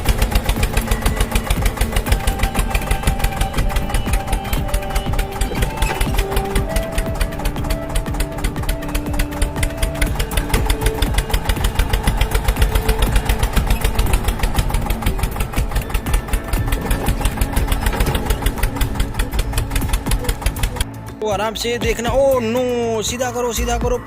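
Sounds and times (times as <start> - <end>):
small motor knocking rhythmically: 0.0 - 21.2.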